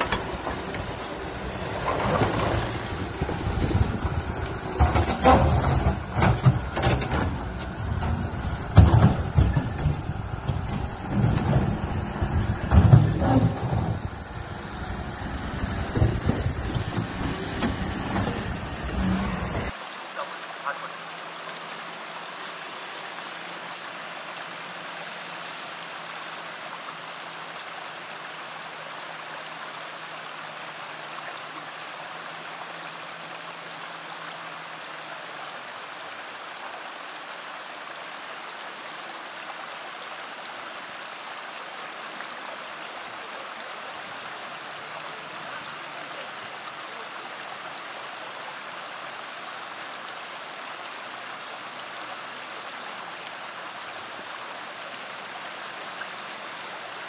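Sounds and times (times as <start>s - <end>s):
creek flowing over rocks: 0.0s - 57.0s.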